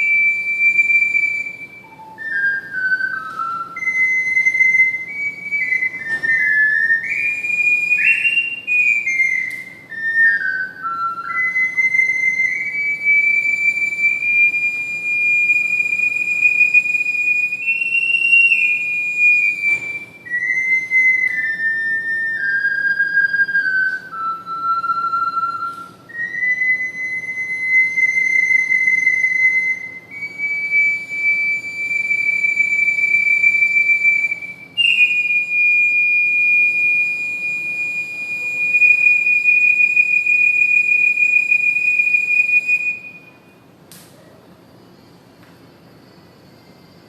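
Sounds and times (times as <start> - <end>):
ocarina playing slow melody: 0.0 - 47.0.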